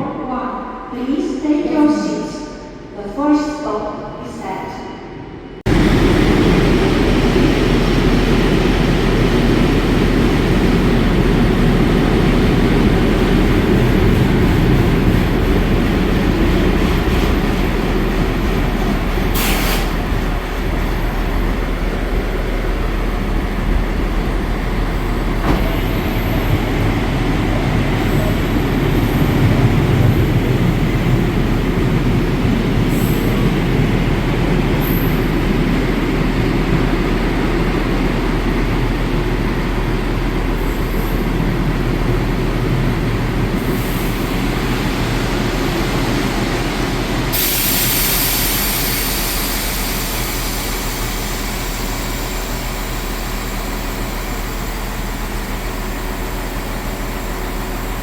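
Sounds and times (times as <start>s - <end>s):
train wheels rumbling on rails: 5.7s - 58.0s.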